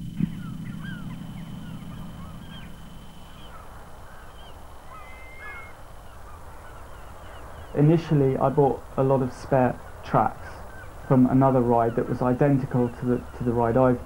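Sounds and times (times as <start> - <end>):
gulls calling: 0.0 - 14.0.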